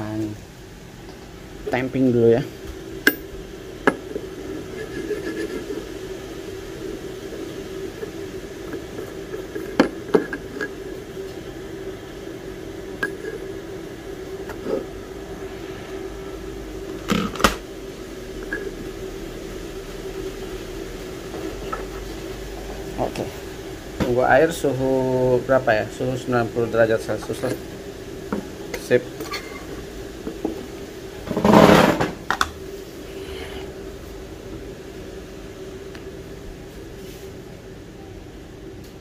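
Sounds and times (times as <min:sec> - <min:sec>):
steady hum: 0:00.0 - 0:39.0.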